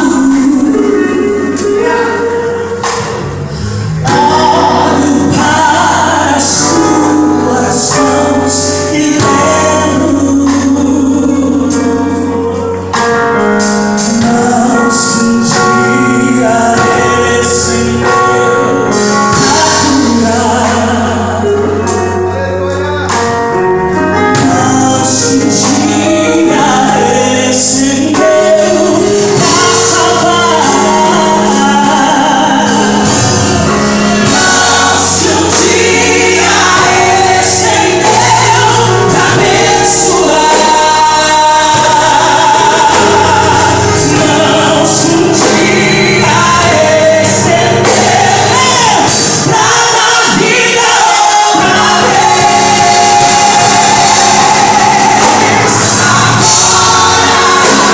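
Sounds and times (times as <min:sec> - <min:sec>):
gospel singing with full band: 0:00.0 - 0:57.9.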